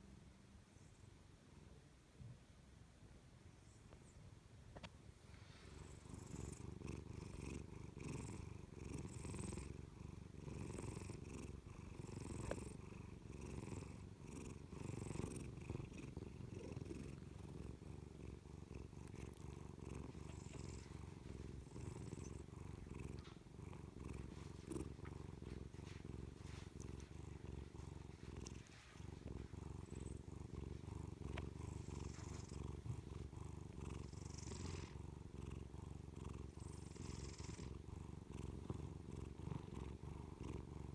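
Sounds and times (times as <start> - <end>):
cat purring: 4.7 - 40.9.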